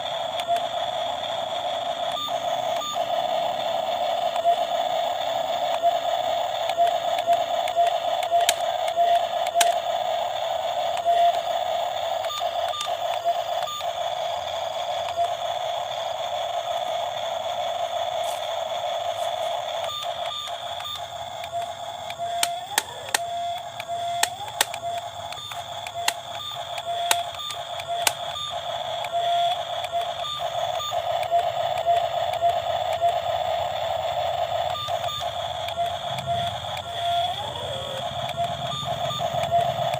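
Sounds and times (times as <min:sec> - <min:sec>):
high-pitched electric motor whine: 0:00.0 - 0:39.9.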